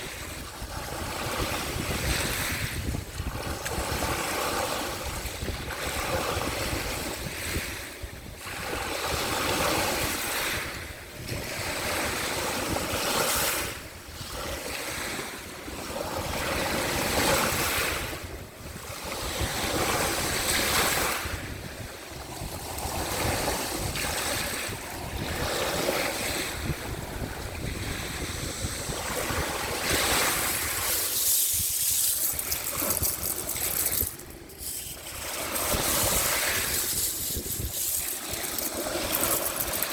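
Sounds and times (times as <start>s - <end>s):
sea waves washing onto shore: 0.0s - 39.9s
wind rumbling on microphone: 0.0s - 39.9s.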